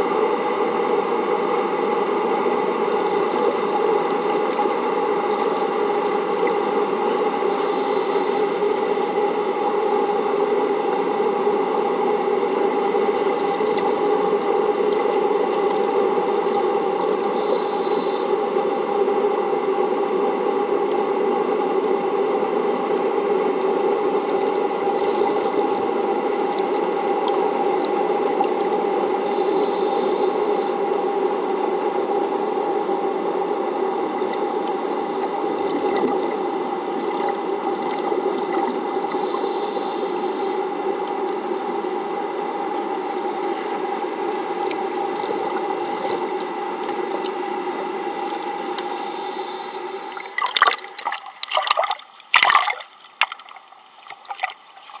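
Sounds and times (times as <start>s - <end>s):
water splashing and sloshing: 0.0s - 18.9s, 24.1s - 28.7s, 34.0s - 55.0s
underwater pump hum: 0.0s - 55.0s.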